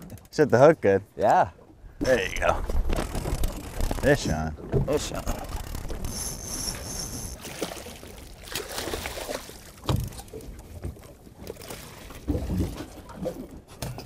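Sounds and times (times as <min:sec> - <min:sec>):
water sloshing against boat hull: 0:01.6 - 0:14.0.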